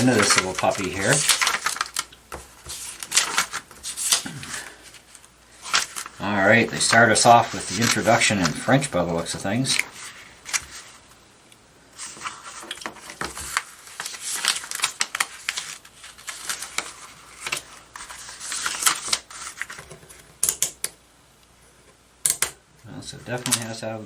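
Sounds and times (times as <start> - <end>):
pages rustling: 0.0 - 11.2, 12.0 - 20.8, 23.2 - 24.0.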